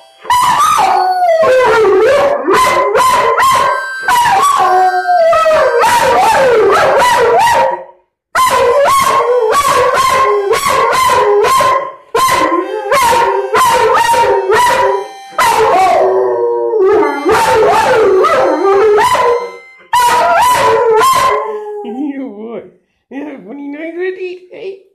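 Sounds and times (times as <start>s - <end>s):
dog howling: 0.3s - 7.8s, 8.4s - 21.9s.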